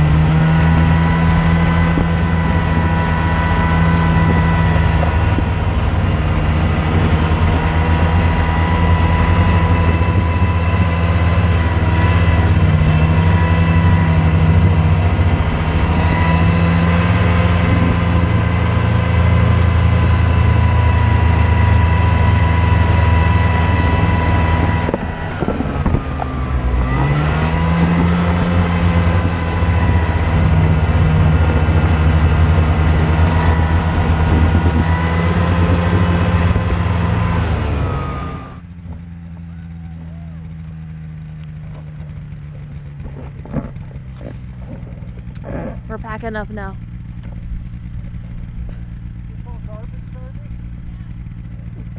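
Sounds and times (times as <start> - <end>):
vehicle engine droning: 0.0 - 51.9.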